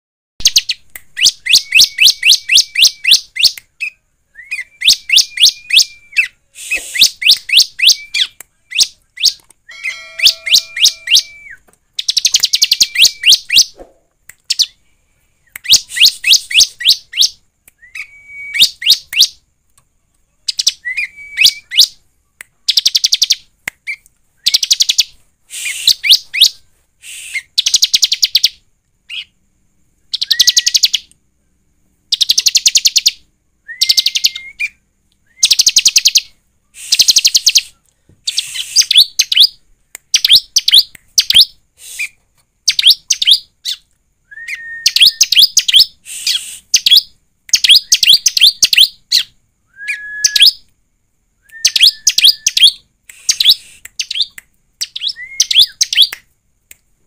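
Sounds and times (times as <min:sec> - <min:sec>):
bird chirping: 0:00.4 - 0:50.7, 0:51.4 - 0:56.2.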